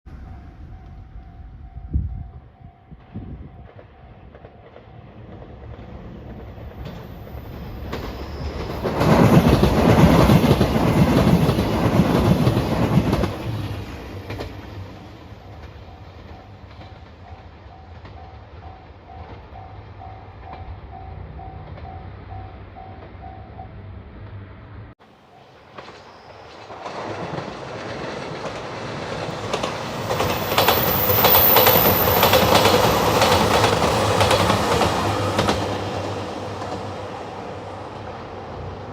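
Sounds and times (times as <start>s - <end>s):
diesel train passing: 0.1s - 38.9s.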